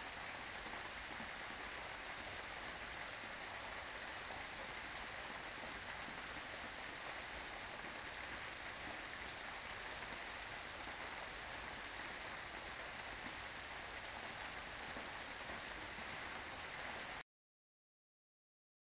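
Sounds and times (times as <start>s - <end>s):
steady rain: 0.0s - 17.2s.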